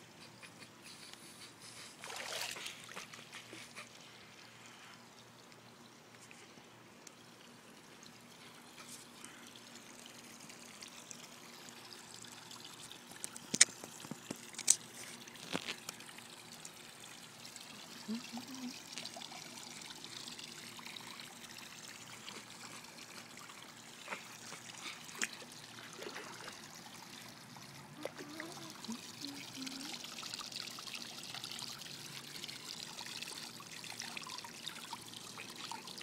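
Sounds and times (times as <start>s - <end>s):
pool water trickling and lapping: 0.0s - 36.0s.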